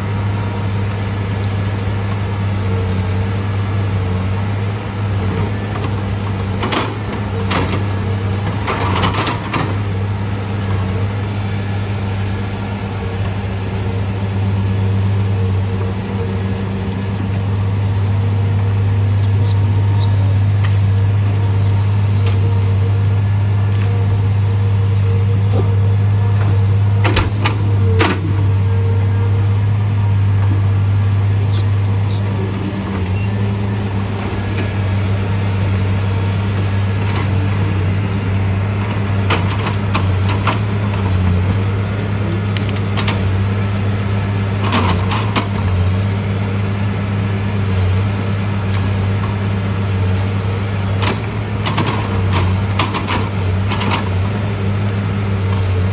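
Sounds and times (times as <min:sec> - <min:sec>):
diesel engine humming: 0:00.0 - 0:55.9.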